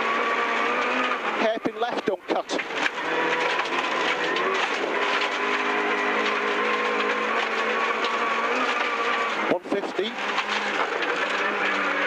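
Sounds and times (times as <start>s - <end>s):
rally car engine from inside cabin: 0.0s - 12.0s.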